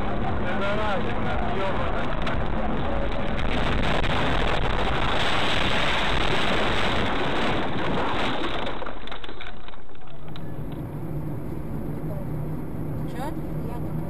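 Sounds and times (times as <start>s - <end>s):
rushing noise inside moving car: 0.0s - 9.0s, 9.6s - 14.0s
engine hum: 0.0s - 14.0s.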